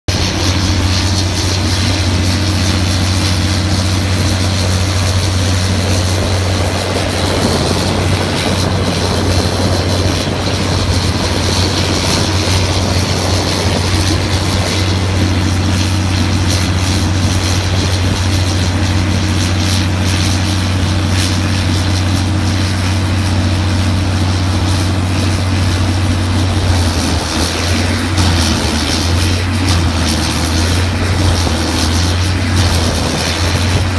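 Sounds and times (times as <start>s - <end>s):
wood chipper droning: 0.1s - 33.9s
wood chips blown out: 0.1s - 33.9s.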